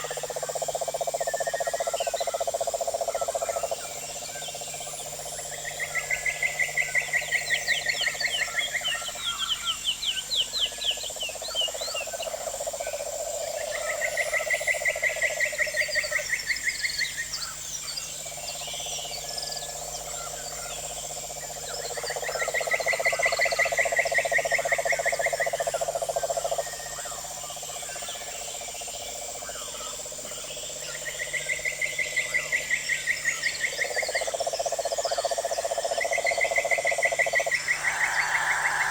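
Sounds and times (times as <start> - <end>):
frogs trilling: 0.0 - 38.9
insects chorus: 0.0 - 38.9.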